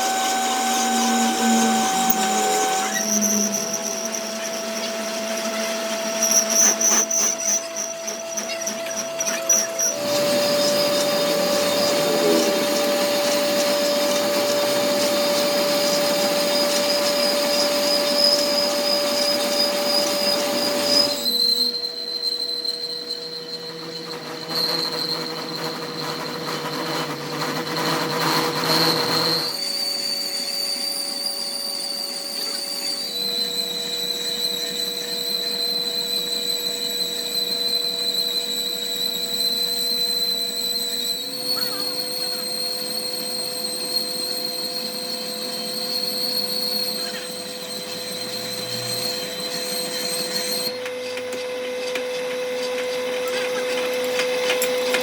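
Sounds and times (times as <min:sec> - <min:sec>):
machine tool cutting metal: 0:00.0 - 0:22.1, 0:32.3 - 0:55.0.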